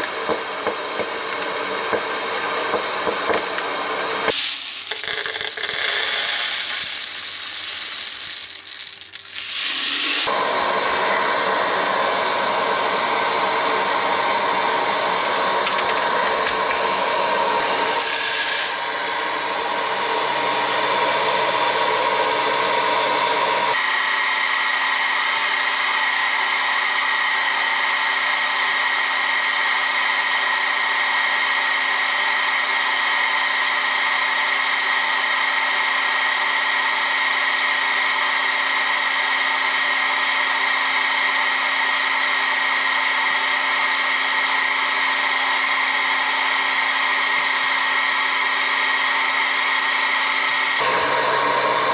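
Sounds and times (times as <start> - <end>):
popcorn popper blower whirring: 0.0 - 51.9.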